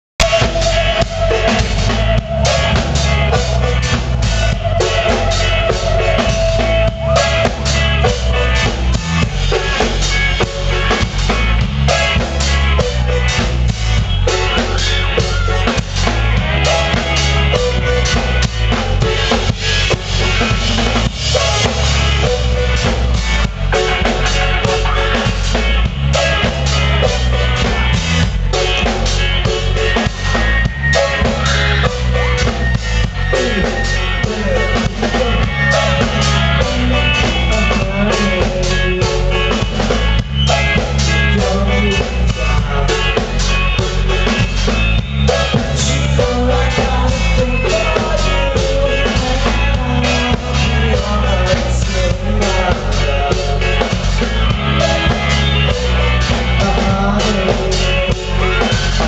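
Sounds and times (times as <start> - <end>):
drum kit beat: 0.2 - 59.0
live rock band playing: 0.2 - 59.0.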